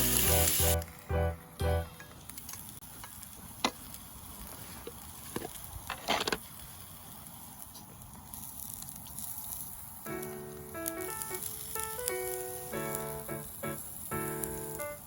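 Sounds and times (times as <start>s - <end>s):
campfire crackling and popping: 1.9s - 15.0s.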